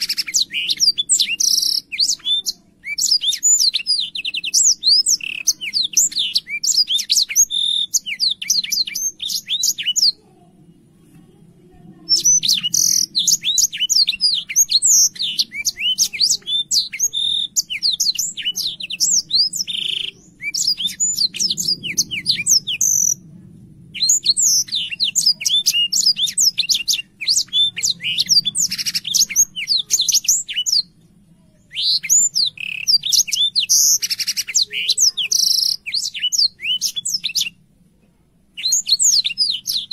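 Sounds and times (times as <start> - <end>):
canary singing: 0.0 - 10.2, 11.9 - 23.3, 24.0 - 31.0, 31.6 - 37.6, 38.6 - 39.9.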